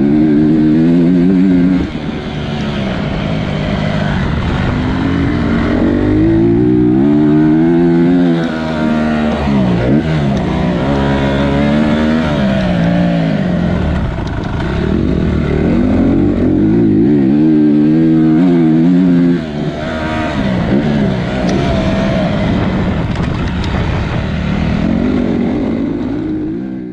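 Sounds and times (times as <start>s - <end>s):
motocross bike engine revving: 0.0s - 26.9s.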